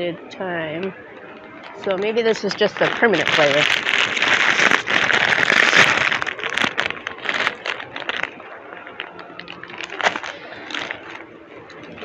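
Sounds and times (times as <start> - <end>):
chip bag crinkling: 1.7 - 12.0.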